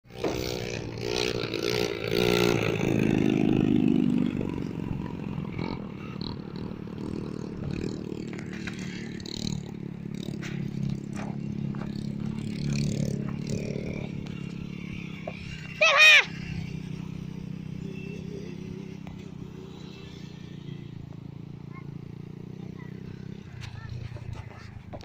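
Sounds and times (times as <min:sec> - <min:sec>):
motorcycle engine running: 0:00.1 - 0:25.0.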